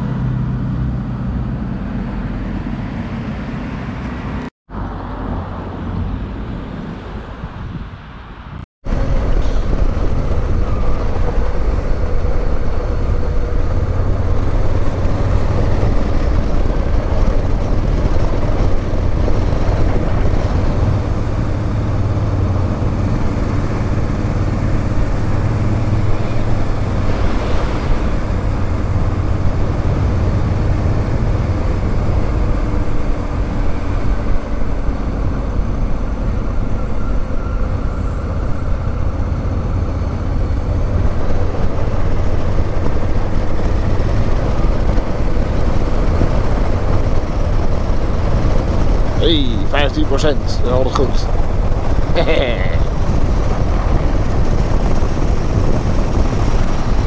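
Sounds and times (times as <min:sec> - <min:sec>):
road and wind noise: 0:00.0 - 0:57.0
motorcycle engine rumble: 0:08.9 - 0:57.0.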